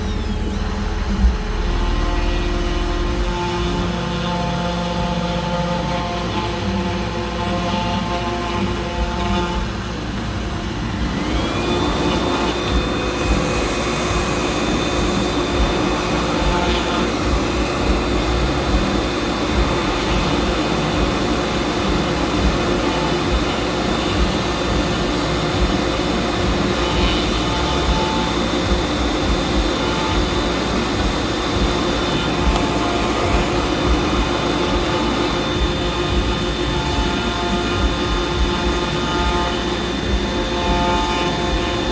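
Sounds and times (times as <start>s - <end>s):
machine motor tones: 0.0s - 41.9s
rough noisy hum: 0.0s - 41.9s
spindle motor whine: 0.0s - 41.9s.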